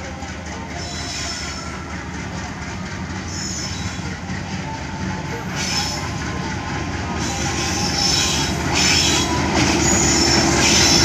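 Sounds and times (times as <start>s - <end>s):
locomotive engine and track rumble: 0.0s - 11.0s.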